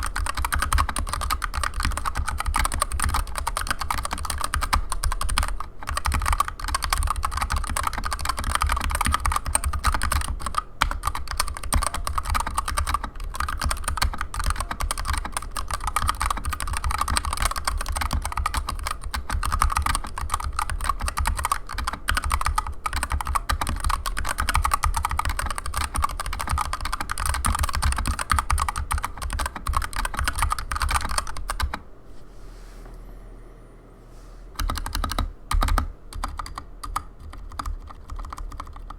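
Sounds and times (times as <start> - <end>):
mechanical keyboard typing: 0.0 - 31.8, 34.6 - 38.9.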